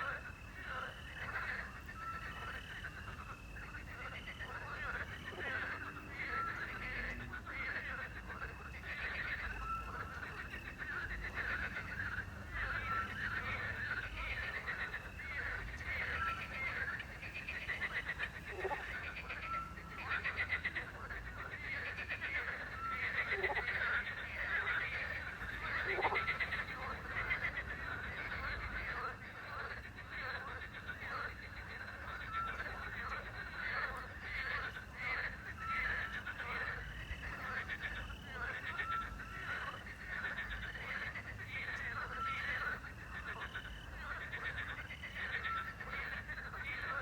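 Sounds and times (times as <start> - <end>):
crickets chirping: 0.0 - 47.0
frogs croaking and trilling: 0.0 - 47.0.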